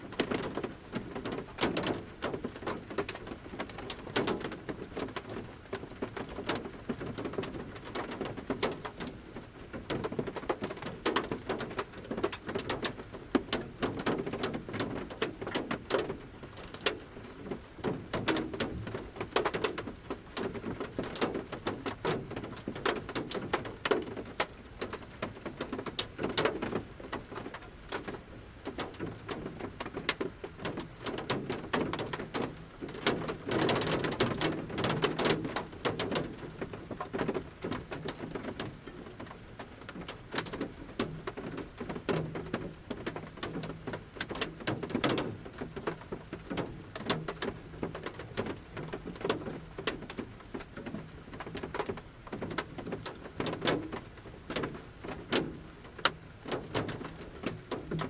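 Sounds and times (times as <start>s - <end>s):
raindrops ticking on van roof: 0.0s - 58.0s.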